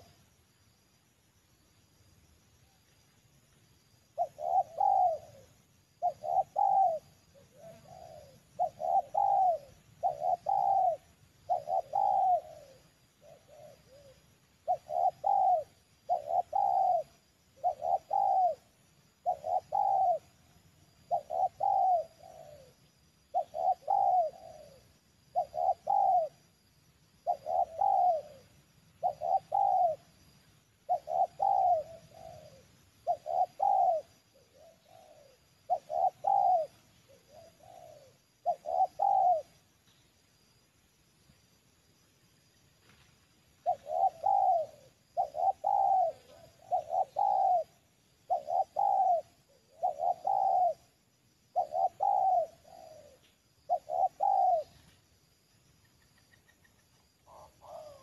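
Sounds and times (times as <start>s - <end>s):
dove cooing: 0.0s - 0.2s, 4.2s - 26.5s, 27.2s - 39.7s, 43.6s - 54.9s, 56.2s - 58.0s.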